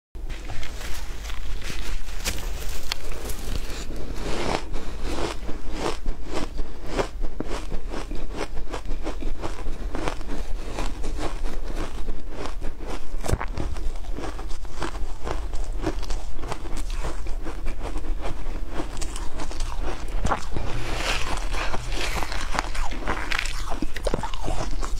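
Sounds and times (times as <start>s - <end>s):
crunchy ice chewing: 0.3s - 24.9s.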